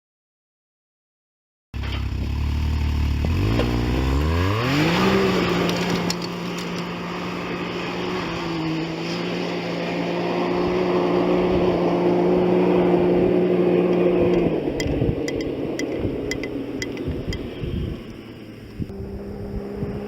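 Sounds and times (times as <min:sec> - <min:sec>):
vehicle engine running: 0:01.8 - 0:20.0.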